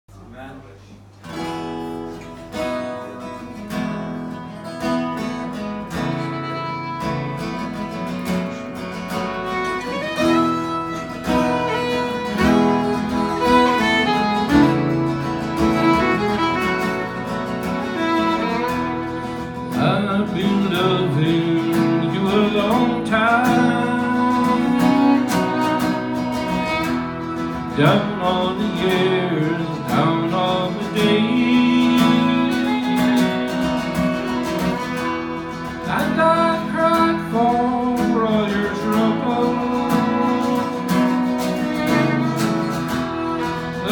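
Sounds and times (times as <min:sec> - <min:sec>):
acoustic guitar strumming: 0:01.2 - 0:43.9
fiddle bowing a melody: 0:05.2 - 0:43.9.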